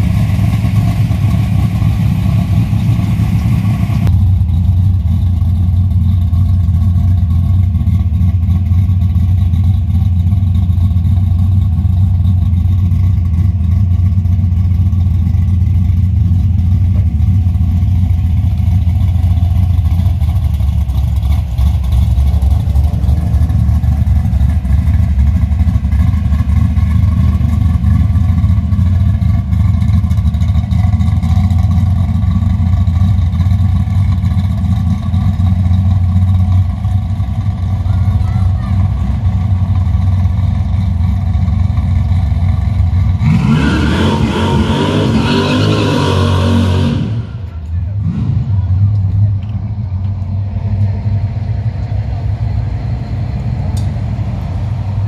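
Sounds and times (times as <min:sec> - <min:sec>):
car exhaust rumble idling: 0:00.0 - 0:55.0.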